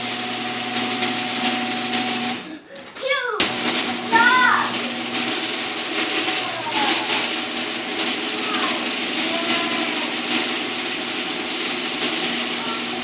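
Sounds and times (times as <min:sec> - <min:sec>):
garage door opener running: 0:00.0 - 0:13.0.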